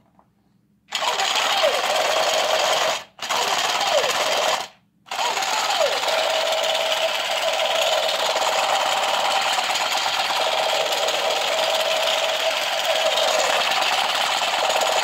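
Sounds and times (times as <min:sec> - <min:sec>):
toy gun rapid-fire sound effect: 0:00.9 - 0:15.0.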